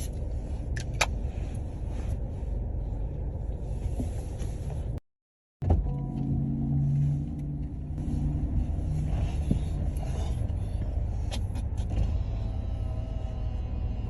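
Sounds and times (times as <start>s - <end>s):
car engine and road noise: 0.0s - 5.0s, 5.6s - 14.0s.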